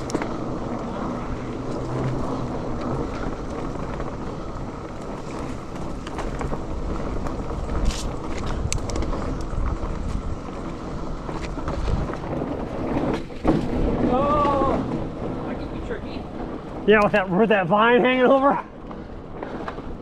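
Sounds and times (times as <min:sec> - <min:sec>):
bike clicks and rattles: 0:00.0 - 0:20.0
bike tyre noise on dirt: 0:00.0 - 0:20.0
wind rush on microphone: 0:00.0 - 0:20.0.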